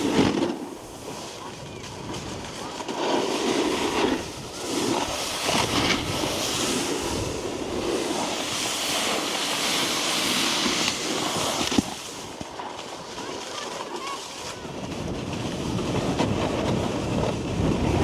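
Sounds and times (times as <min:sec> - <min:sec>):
snowboard scraping over snow: 0:00.0 - 0:18.0
wind on microphone: 0:00.0 - 0:18.0.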